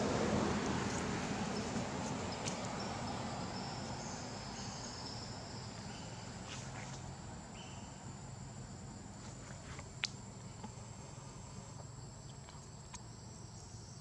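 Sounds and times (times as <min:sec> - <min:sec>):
insects buzzing: 0:00.0 - 0:14.0
insect trills: 0:00.6 - 0:14.0.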